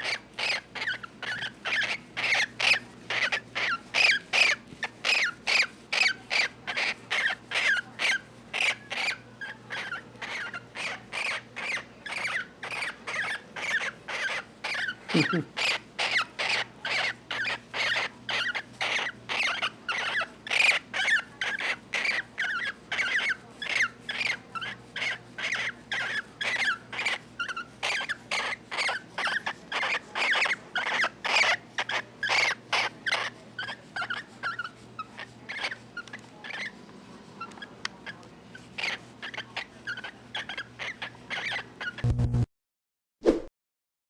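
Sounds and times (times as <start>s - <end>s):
cockatiel calling: 0.0s - 36.7s.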